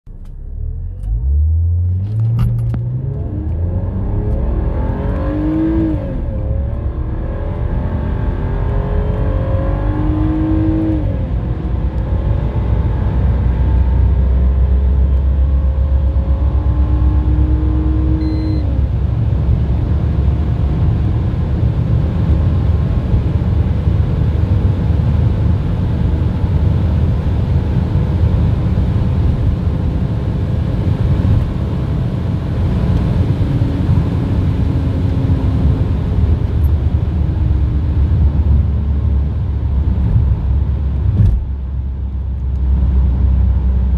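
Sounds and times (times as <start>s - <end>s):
car engine accelerating: 0.1s - 43.9s
road and wind rumble: 0.1s - 43.9s.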